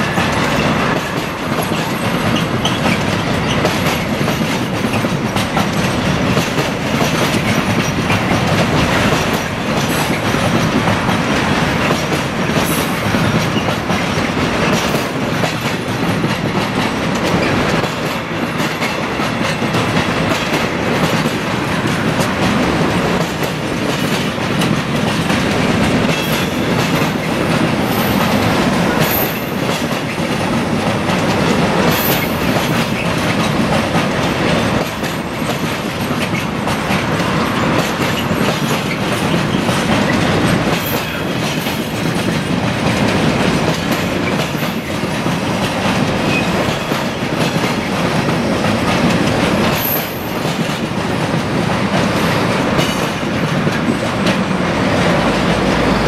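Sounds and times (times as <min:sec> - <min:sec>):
train wheels clacking: 0:00.0 - 0:56.0.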